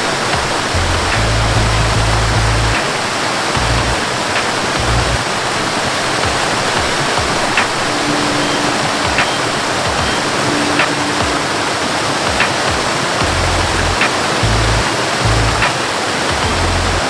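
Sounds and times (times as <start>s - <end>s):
low notes: 0.0s - 17.0s
waterfall rushing: 0.0s - 17.0s.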